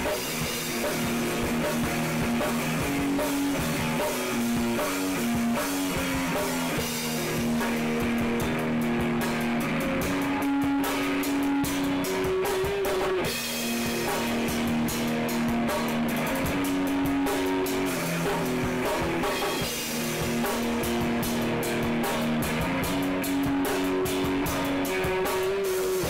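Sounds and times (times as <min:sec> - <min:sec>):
drum kit with cymbals: 0:00.0 - 0:26.0
electric guitar riff: 0:00.0 - 0:26.0.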